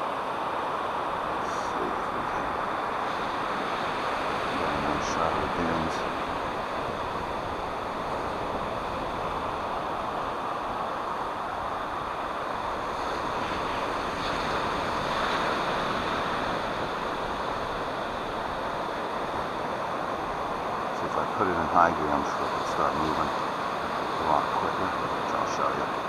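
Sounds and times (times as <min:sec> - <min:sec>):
ocean surf rushing: 0:00.0 - 0:26.0
wind: 0:00.0 - 0:26.0.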